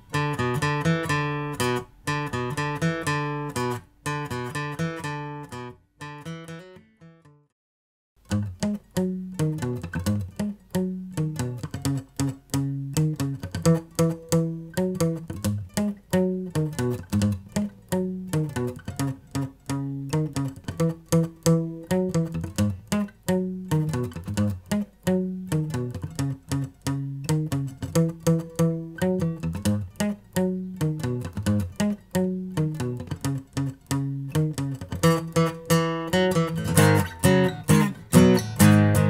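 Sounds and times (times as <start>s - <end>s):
acoustic guitar playing: 0.0s - 7.5s, 8.2s - 39.0s.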